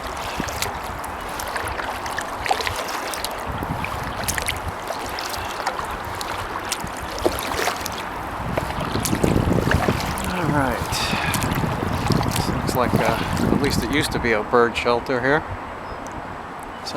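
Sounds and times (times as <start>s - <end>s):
water dripping: 0.0s - 13.8s
water splashing off paddles: 0.0s - 14.1s.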